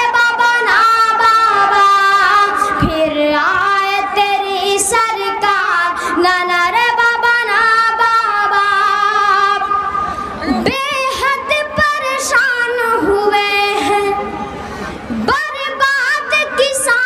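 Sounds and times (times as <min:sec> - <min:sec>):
boy singing: 0:00.0 - 0:09.8, 0:10.4 - 0:14.3, 0:15.1 - 0:17.0.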